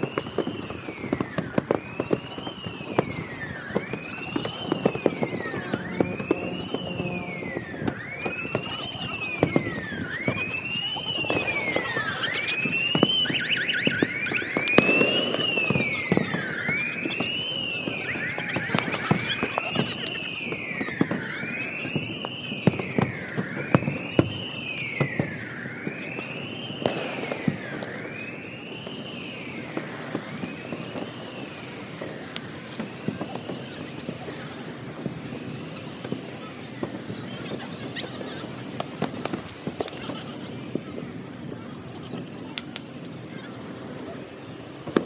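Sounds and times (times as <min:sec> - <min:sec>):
distant fireworks crackling: 0:00.0 - 0:45.0
wailing siren: 0:00.0 - 0:45.0.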